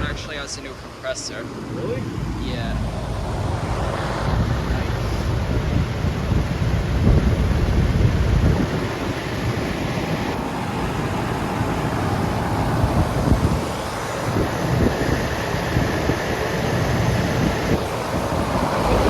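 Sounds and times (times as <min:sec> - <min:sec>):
wind buffeting microphone: 0:00.0 - 0:00.8, 0:01.4 - 0:19.0
air conditioner running: 0:00.0 - 0:19.0.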